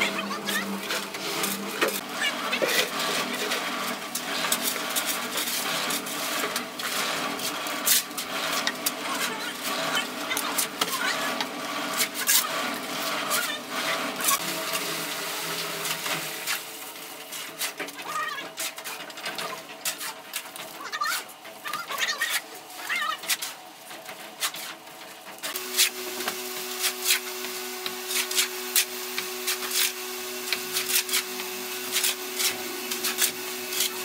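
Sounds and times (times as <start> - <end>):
concrete mixer humming: 0.0 - 34.0
shovels scraping and knocking: 0.4 - 14.4, 15.8 - 24.8, 25.4 - 34.0.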